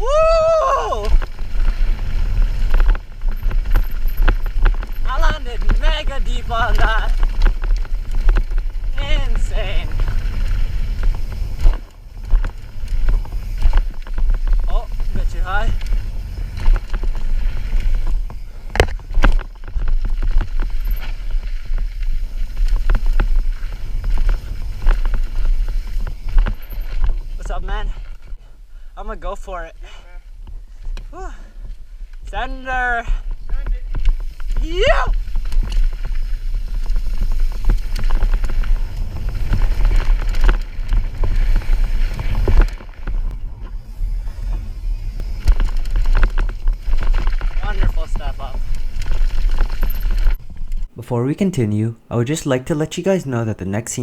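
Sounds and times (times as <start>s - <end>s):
bike chain and frame rattling: 0.0s - 28.5s, 29.9s - 50.9s
wind rumbling on microphone: 0.0s - 28.5s, 30.3s - 51.0s.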